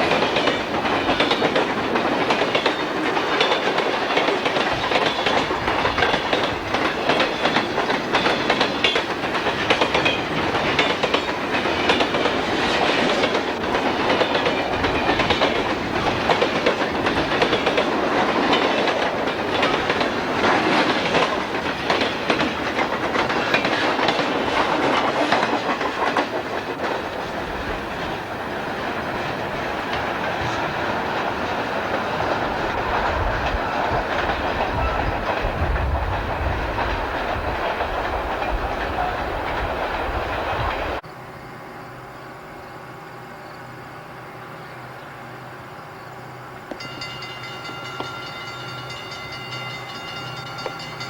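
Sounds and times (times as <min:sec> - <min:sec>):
train wheels clicking over joints: 0:00.0 - 0:41.0, 0:46.5 - 0:51.0.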